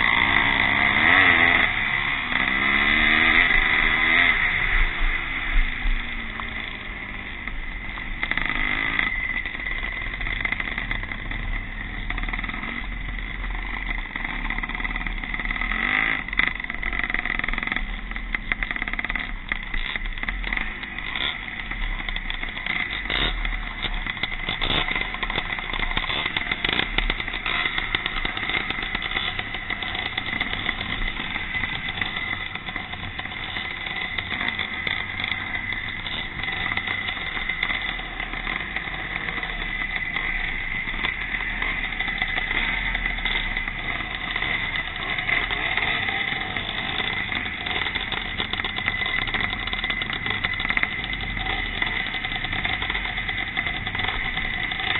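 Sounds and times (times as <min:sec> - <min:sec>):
motorcycle engines revving by: 0:00.0 - 0:54.9.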